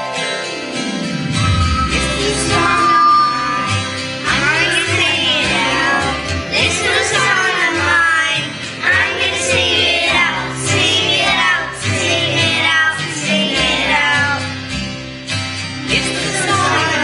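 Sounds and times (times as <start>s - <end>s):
instrumental accompaniment: 0.0s - 17.0s
steady bass notes: 1.0s - 17.0s
children singing: 1.4s - 14.6s, 15.9s - 17.0s.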